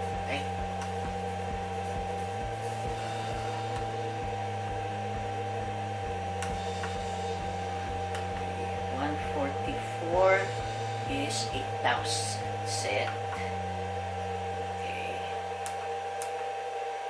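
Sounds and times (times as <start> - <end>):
high steady tone: 0.0 - 16.3
steady mechanical hum: 0.0 - 17.0.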